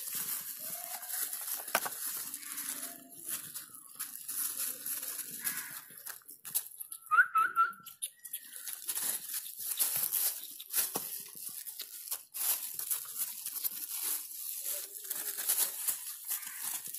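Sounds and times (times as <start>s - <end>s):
puppies rustling in plastic litter: 0.0s - 6.9s, 8.5s - 16.9s.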